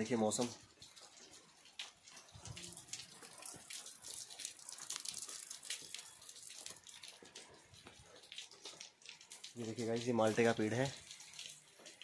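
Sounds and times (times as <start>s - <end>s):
raindrops pattering: 0.0s - 12.0s
soft rain hiss: 0.0s - 12.0s.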